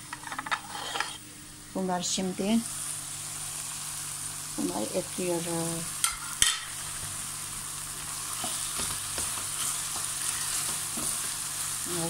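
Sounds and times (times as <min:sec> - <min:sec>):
vegetables sizzling in oil: 0:01.7 - 0:12.0.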